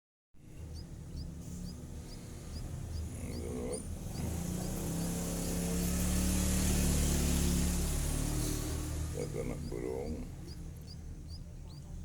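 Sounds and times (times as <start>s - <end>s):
small bird chirping: 0.4s - 12.0s.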